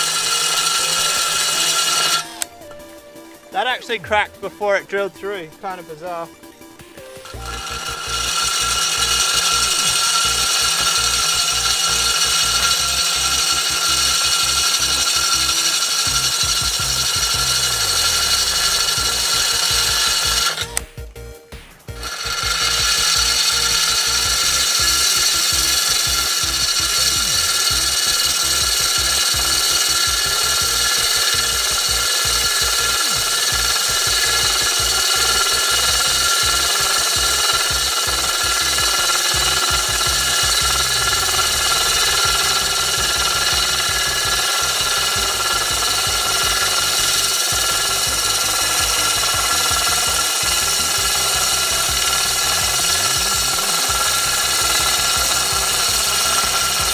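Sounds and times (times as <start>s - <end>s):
drill hole saw grinding glass: 0.0s - 21.0s, 21.9s - 56.9s.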